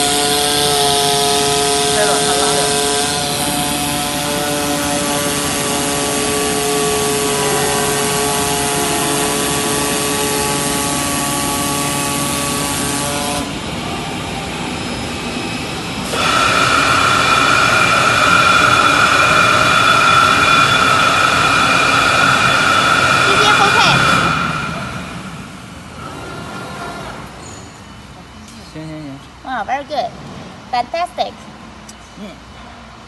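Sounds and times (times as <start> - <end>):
cutting machine whine: 0.0 - 27.0.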